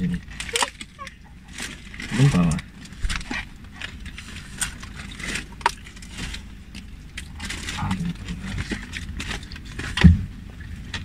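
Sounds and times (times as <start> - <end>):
low rumble inside car: 0.0 - 11.0
paper wrappers crinkling: 0.0 - 11.0.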